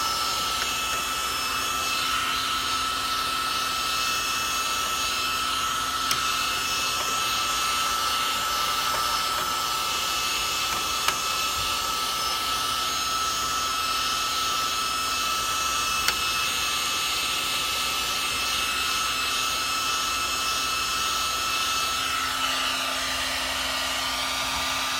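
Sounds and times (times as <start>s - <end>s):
electric blower motor whine: 0.0s - 24.9s.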